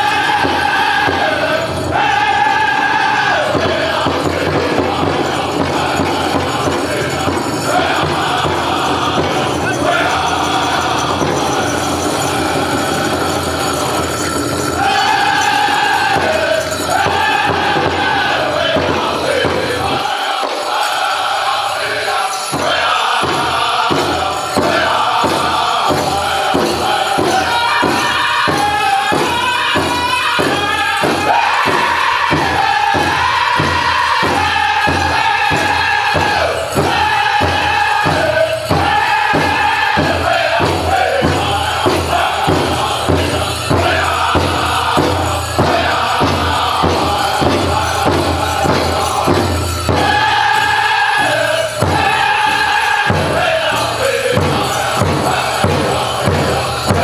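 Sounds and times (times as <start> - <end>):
people singing in high voices: 0.0 - 57.0
steady big drum beat: 0.0 - 57.0.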